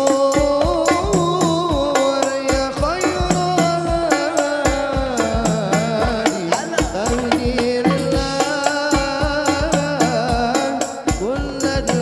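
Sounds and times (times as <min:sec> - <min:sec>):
frame drums: 0:00.0 - 0:12.0
men singing into microphones: 0:00.0 - 0:12.0
deep bass drum beat: 0:00.4 - 0:12.0.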